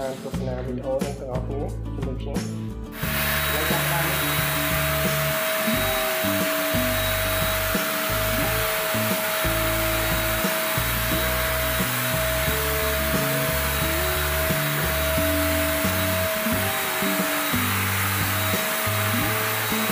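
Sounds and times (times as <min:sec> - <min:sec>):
background music with bass: 0:00.0 - 0:19.9
electric paint spray gun hissing: 0:03.0 - 0:19.9.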